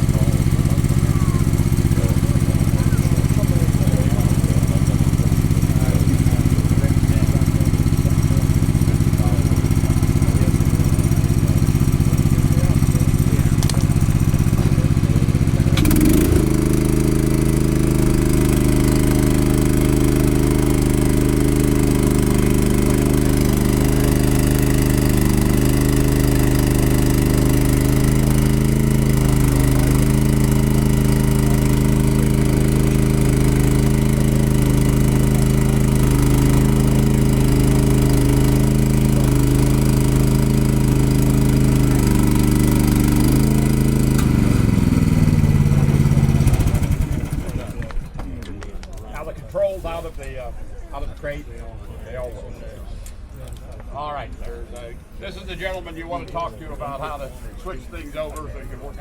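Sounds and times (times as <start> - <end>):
small engine running: 0.0 - 48.2.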